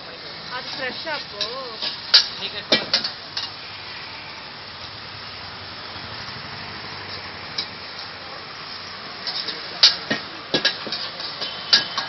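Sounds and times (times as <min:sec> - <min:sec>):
noodles sizzling in a wok: 0:00.0 - 0:12.0.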